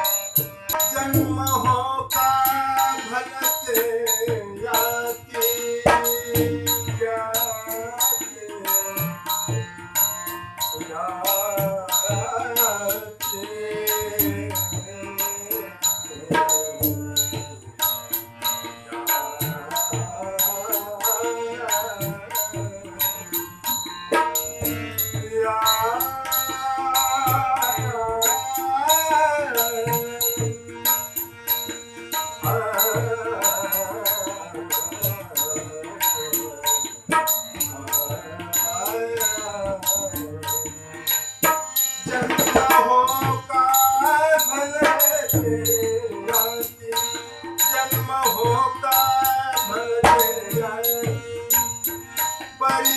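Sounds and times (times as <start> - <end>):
tabla and light percussion: 0.0 - 52.9.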